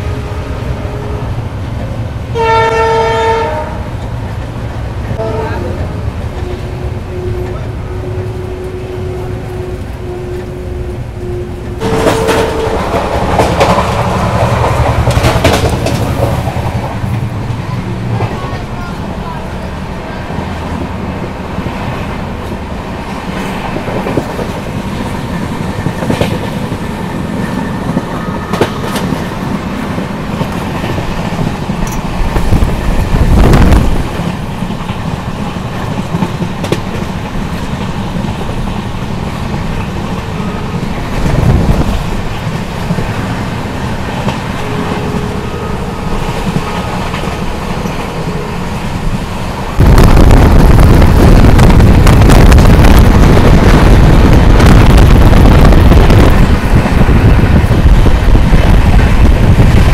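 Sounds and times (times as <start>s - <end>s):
train carriage rumbling: 0.0s - 59.9s
rushing noise: 3.8s - 59.9s.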